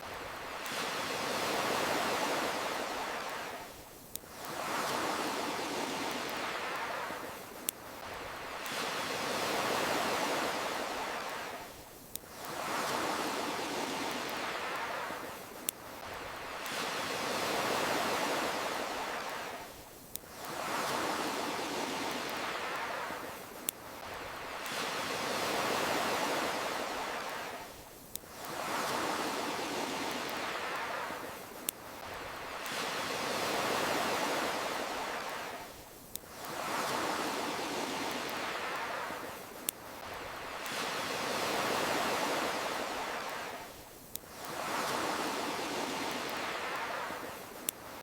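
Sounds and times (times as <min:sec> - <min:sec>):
campfire crackling: 0:00.0 - 0:48.0
ocean waves washing in: 0:00.0 - 0:48.0.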